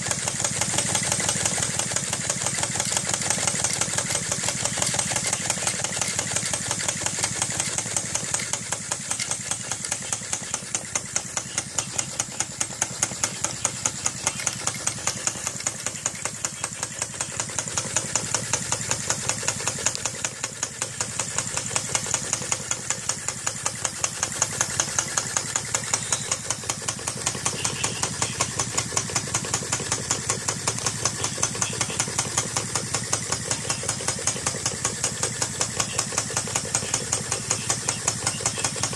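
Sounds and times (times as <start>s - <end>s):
model engine knocking: 0.0s - 38.9s.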